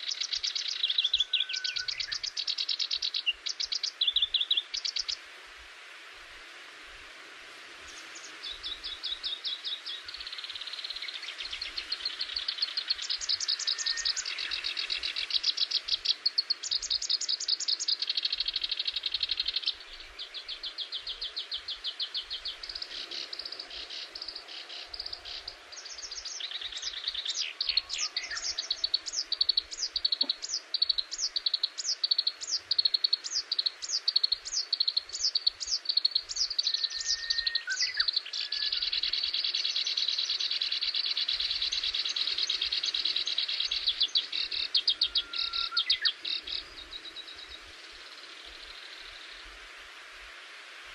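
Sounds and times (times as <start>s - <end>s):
songbirds singing high trills: 0.0s - 5.2s, 7.9s - 49.6s.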